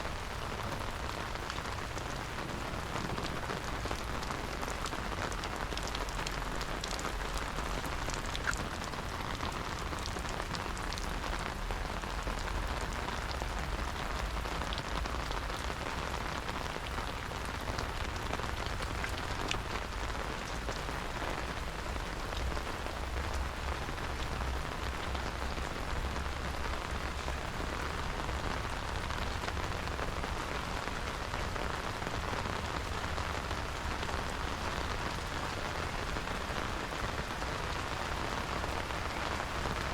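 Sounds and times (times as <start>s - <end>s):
raindrops ticking sharply: 0.0s - 39.9s
steady rain falling: 0.0s - 39.9s.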